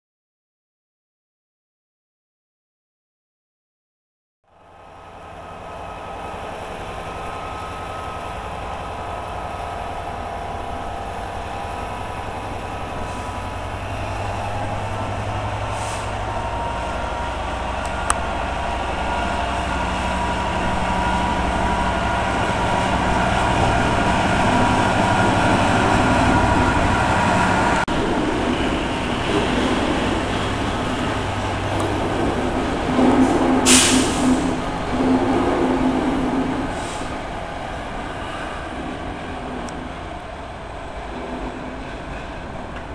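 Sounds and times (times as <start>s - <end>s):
diesel locomotive engine: 4.5s - 42.9s
wagons rumbling: 6.1s - 42.9s.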